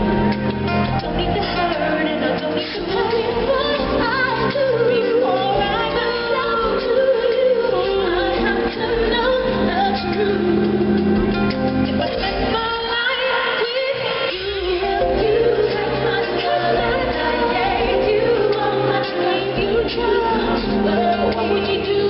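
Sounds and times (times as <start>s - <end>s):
woman singing into a microphone: 0.0s - 22.0s.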